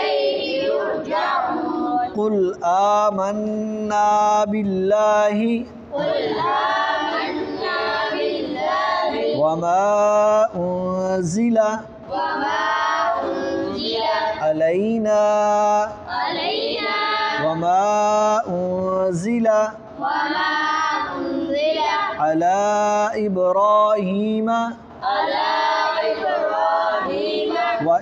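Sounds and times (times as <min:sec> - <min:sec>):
boys chanting in unison: 0:00.0 - 0:28.0.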